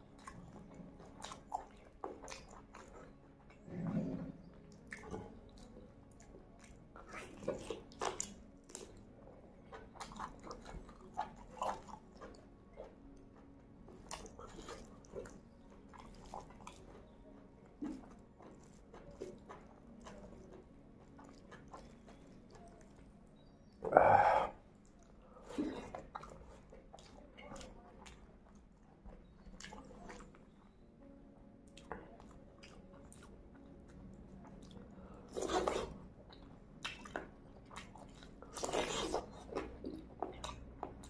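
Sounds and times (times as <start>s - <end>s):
wet chewing and lip smacks: 0.0s - 3.7s, 4.4s - 30.8s, 31.6s - 41.0s
fingers squishing rice: 4.7s - 30.8s, 31.7s - 41.0s.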